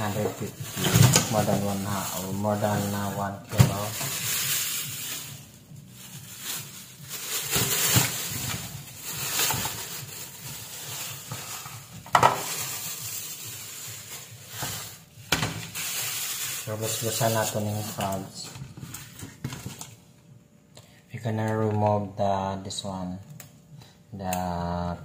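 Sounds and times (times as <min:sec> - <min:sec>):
plastic bag rustling: 0:00.0 - 0:20.1.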